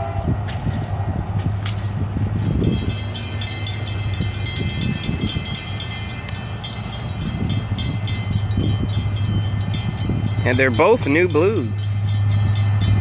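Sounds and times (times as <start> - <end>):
diesel locomotive rumble: 0.0 - 13.0
train wheels clicking on rails: 0.2 - 13.0.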